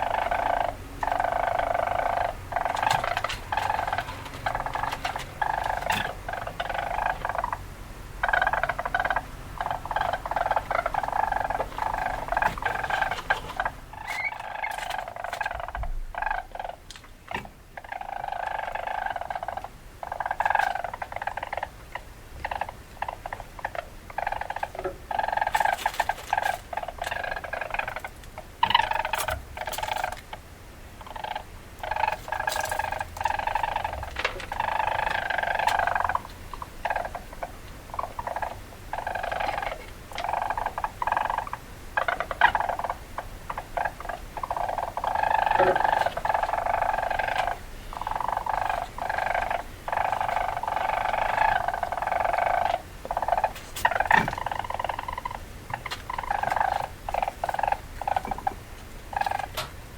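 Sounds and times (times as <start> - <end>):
weasel chattering: 0.0 - 30.4, 31.0 - 59.7.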